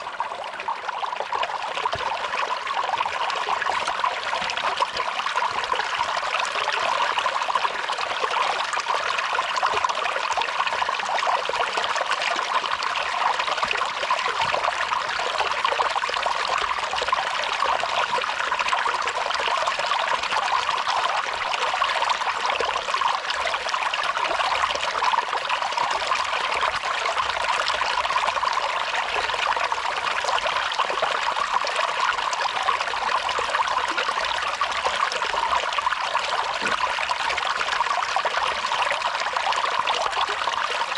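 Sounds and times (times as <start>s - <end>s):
water dripping and trickling: 0.0s - 40.9s.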